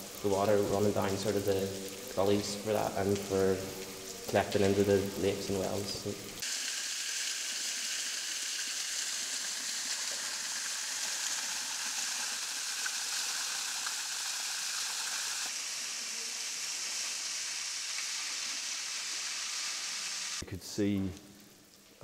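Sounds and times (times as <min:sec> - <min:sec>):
rainwater running over rock: 0:00.0 - 0:20.4.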